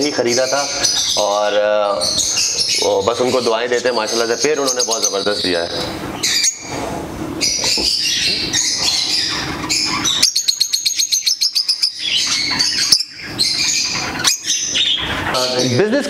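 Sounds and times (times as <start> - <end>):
caged birds chattering and chirping: 0.0 - 16.0.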